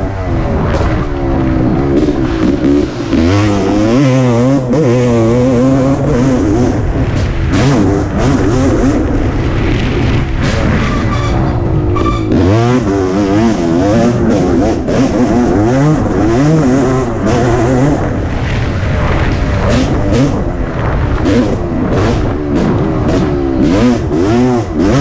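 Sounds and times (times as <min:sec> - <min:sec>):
motocross engine revving: 0:00.0 - 0:25.0.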